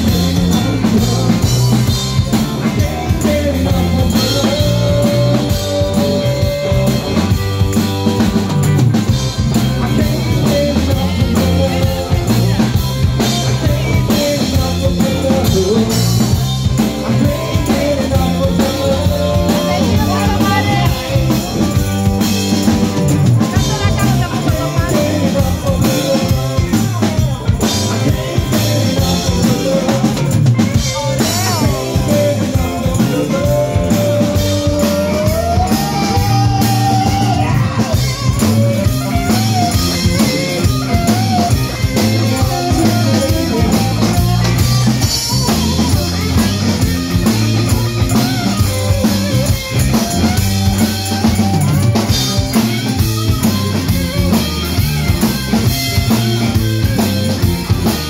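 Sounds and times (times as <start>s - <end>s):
bass guitar: 0.0s - 58.0s
drum kit: 0.0s - 58.0s
electric guitar sliding melody: 0.0s - 58.0s.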